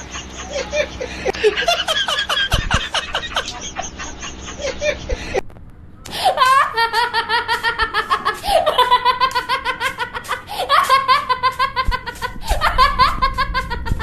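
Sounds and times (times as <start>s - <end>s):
high-pitched laughter: 0.0s - 5.4s, 6.2s - 14.0s.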